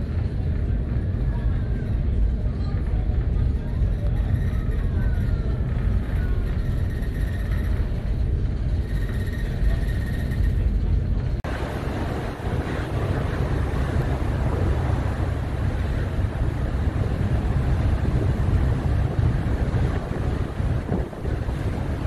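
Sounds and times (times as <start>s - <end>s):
sea noise: 0.0s - 22.0s
wind buffeting microphone: 0.0s - 22.0s.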